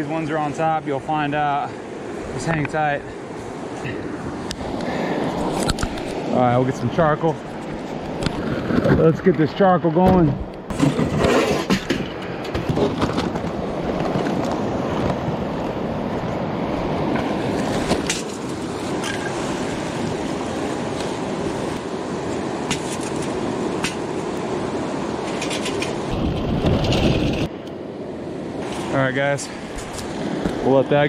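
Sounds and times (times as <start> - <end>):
river rushing: 0.0 - 11.3, 12.0 - 31.0.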